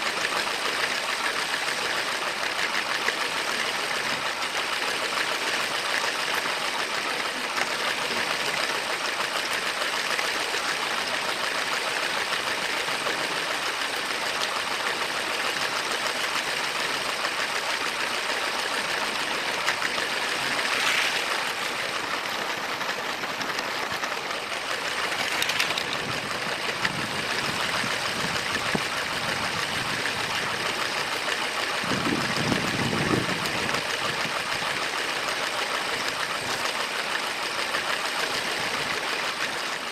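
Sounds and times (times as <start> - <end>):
toy train motor whirring rattle: 0.0 - 39.9.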